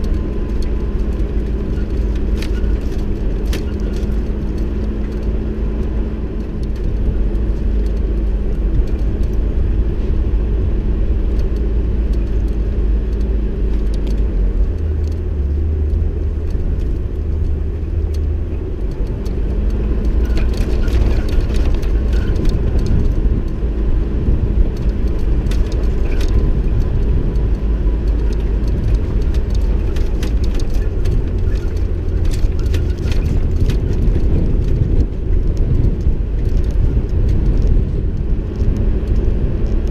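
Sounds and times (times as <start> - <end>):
low road rumble: 0.0 - 39.9
vehicle engine drone: 0.0 - 39.9.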